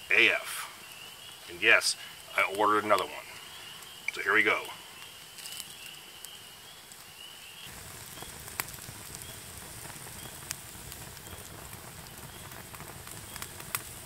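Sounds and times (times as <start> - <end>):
campfire crackling: 0.0 - 14.0
fire popping: 0.0 - 14.0.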